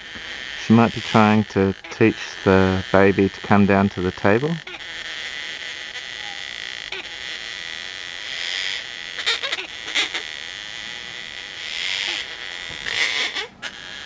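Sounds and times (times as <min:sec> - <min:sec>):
cockatoos harsh rasping calls: 0:00.0 - 0:14.0.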